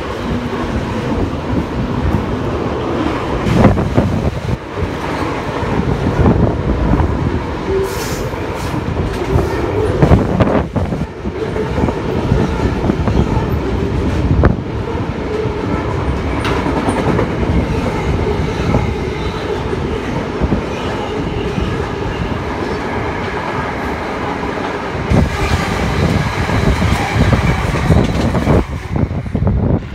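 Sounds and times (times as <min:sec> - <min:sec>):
freight train rolling past: 0:00.0 - 0:29.9.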